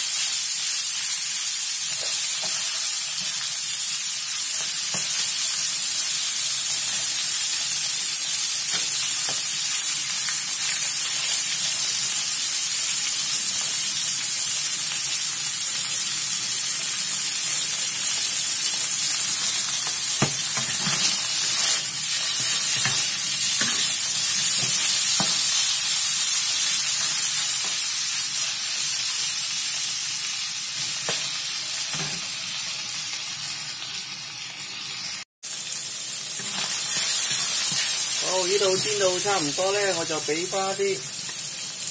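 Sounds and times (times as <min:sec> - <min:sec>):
meat sizzling in hot oil: 0:00.0 - 0:41.9.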